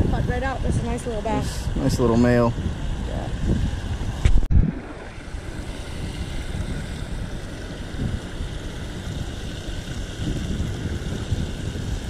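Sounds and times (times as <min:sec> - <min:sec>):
water rushing over spillway: 0:00.0 - 0:12.0
wind buffeting microphone: 0:00.0 - 0:12.0.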